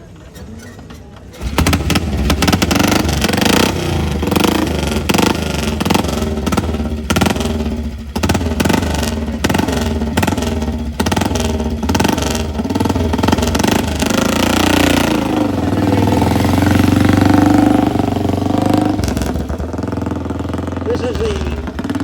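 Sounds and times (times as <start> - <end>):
motorcycle engine revving: 1.3 - 22.0.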